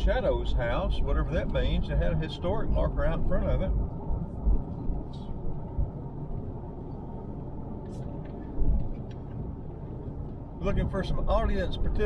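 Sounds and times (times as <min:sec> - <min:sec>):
tyre and engine rumble: 0:00.0 - 0:12.0.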